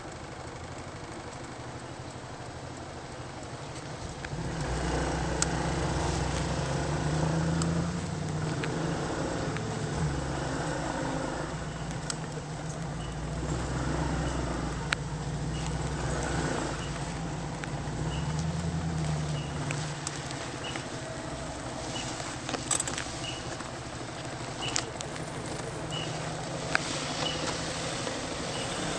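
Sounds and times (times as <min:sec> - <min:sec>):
vehicle engines droning: 0:00.0 - 0:28.9
sharp clicks: 0:01.4 - 0:28.9.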